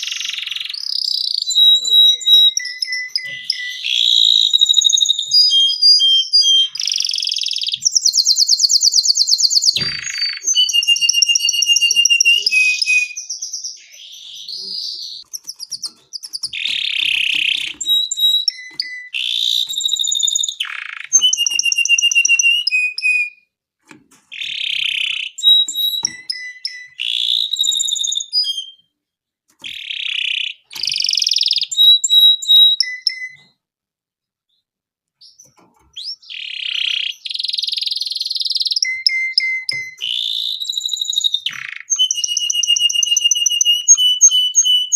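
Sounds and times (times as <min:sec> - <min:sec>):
canary singing trills: 0:00.0 - 0:23.4, 0:24.3 - 0:28.9, 0:29.6 - 0:33.6, 0:35.2 - 0:44.9.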